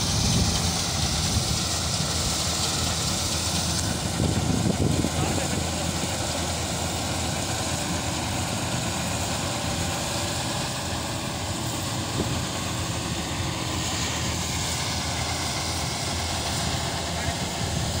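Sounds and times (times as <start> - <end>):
combine harvester humming: 0.0 - 18.0.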